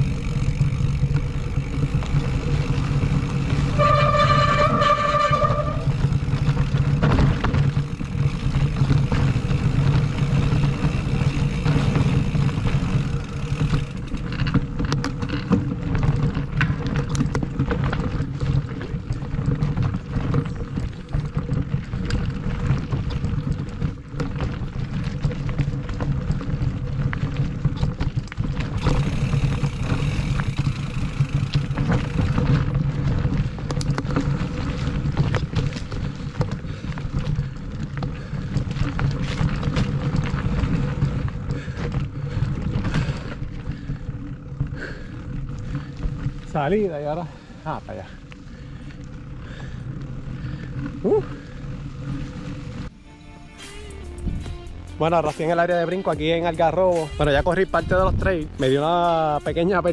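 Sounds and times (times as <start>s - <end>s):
bike rattling over roots: 0.0s - 52.9s, 54.2s - 59.9s
knobby tyres rumbling on dirt: 0.0s - 59.9s
wind: 0.0s - 59.9s.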